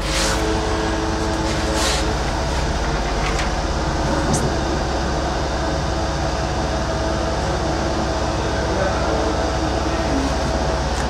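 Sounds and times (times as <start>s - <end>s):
pump motor and fan humming: 0.0s - 11.0s.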